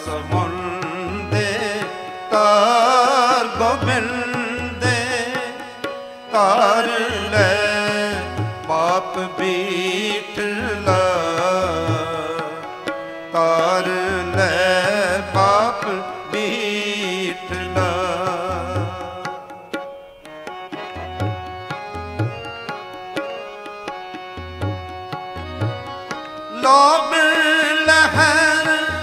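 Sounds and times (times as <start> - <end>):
held melodic tones: 0.0 - 29.0
tabla rhythm: 0.0 - 29.0.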